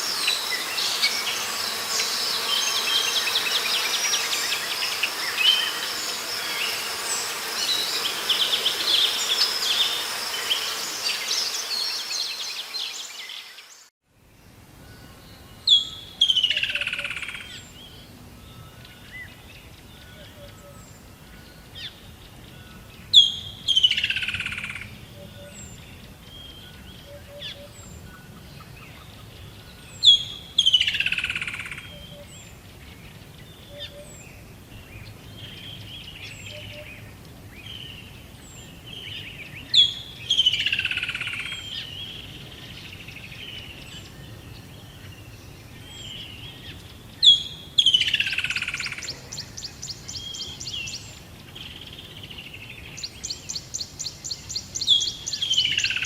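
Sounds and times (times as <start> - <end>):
birds chirping softly: 0.0 - 56.0.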